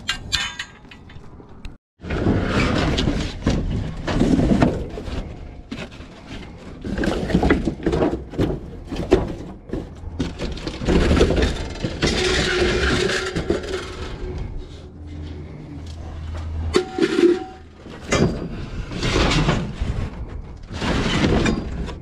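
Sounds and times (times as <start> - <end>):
junk clattering and knocking: 0.0 - 22.0
scraping rustle: 2.0 - 22.0.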